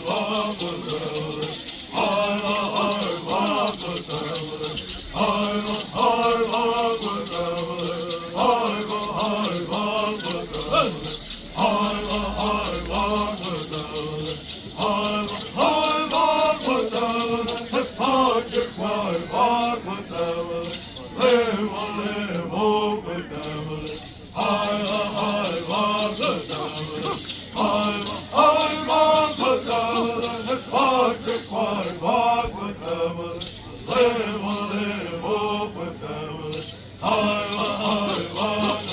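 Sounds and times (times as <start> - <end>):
gourd rattles shaken: 0.0 - 38.9
men singing: 0.0 - 38.9.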